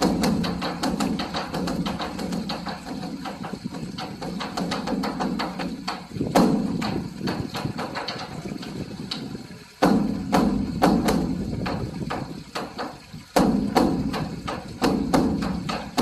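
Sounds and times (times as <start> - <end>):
drum beaten with sticks: 0.0 - 16.0.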